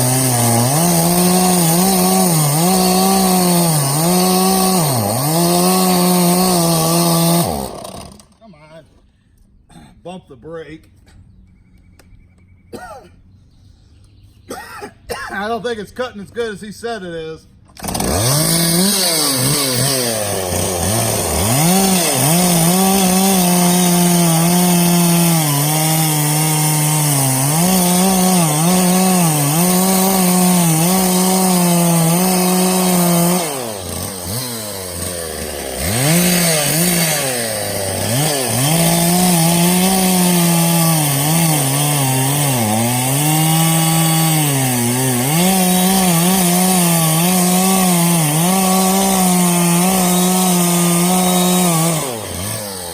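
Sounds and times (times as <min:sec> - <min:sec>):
chainsaw cutting wood: 0:00.0 - 0:08.4, 0:17.6 - 0:52.9.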